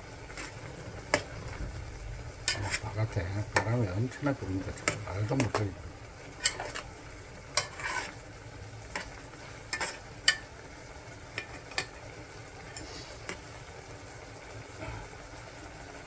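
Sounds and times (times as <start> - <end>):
utensil stirring in pot: 0.0 - 15.2.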